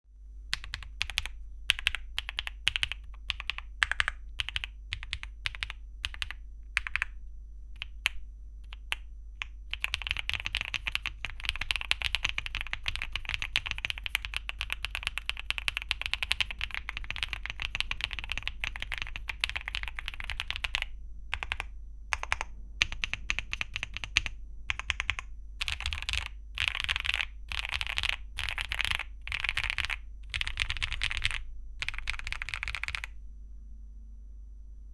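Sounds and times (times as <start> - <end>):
mechanical keyboard typing: 0.5 - 7.2, 7.8 - 33.2.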